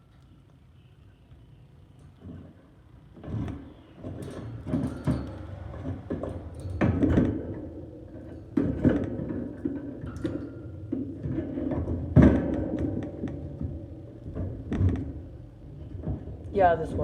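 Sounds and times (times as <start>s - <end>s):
birdcage fittings knocking and clattering: 2.0s - 16.4s.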